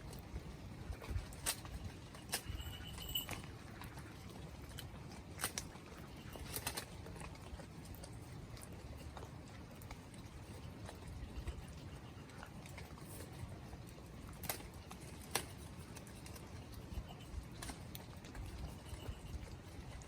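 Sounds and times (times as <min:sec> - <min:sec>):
light rain: 0:00.0 - 0:20.0.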